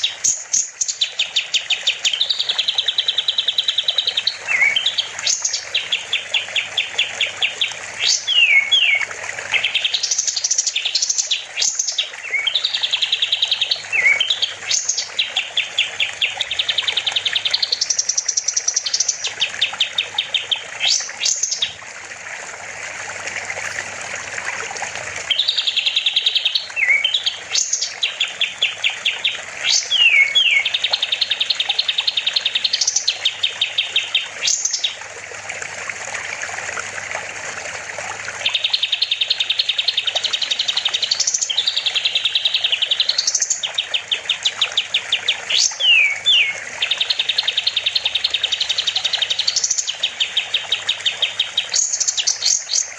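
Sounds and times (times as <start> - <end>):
bird singing trilled phrases: 0.0 - 21.8, 25.3 - 35.0, 38.4 - 52.9.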